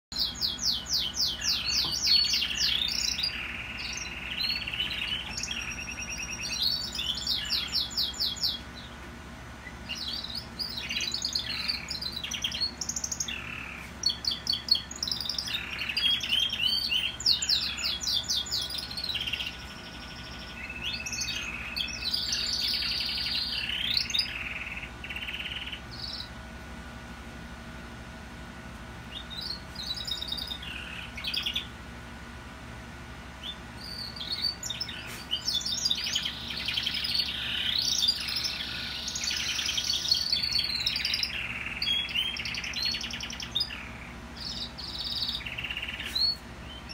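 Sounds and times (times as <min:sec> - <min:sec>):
canaries singing trills: 0:00.1 - 0:46.9.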